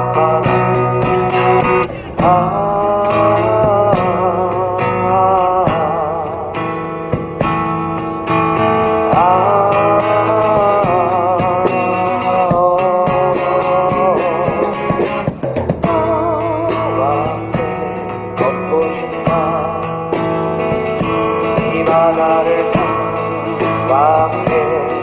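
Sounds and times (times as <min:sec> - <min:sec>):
guitar accompaniment: 0:00.0 - 0:25.0.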